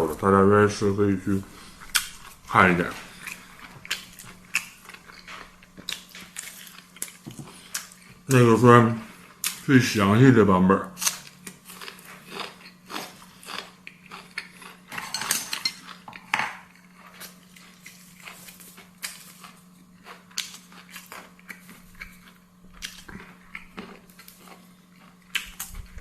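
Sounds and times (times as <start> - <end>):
faint steady hum: 0.0 - 26.0
person chewing: 1.3 - 8.3, 9.1 - 9.7, 10.9 - 26.0.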